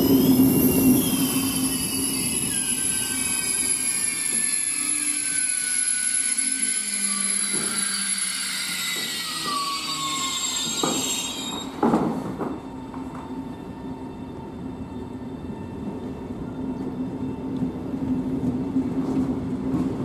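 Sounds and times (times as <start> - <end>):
train wheels squealing: 0.0 - 17.9.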